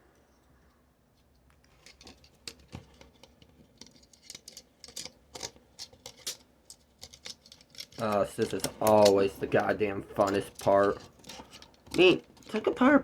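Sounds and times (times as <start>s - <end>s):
small plastic parts clicking: 1.2s - 12.8s.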